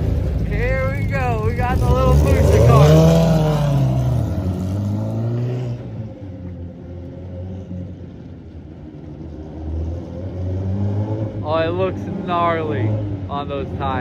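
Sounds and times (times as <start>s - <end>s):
truck engines running: 0.0s - 14.0s.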